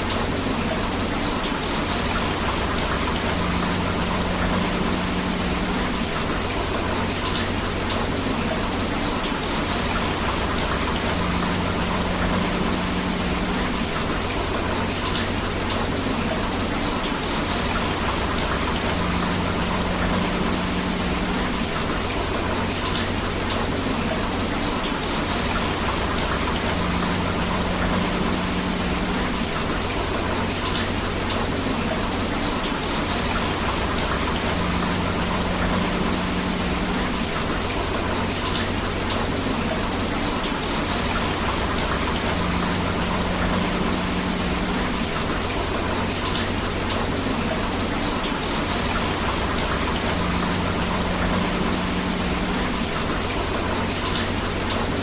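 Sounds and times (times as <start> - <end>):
flowing river water: 0.0 - 55.0
steady rain: 0.0 - 55.0.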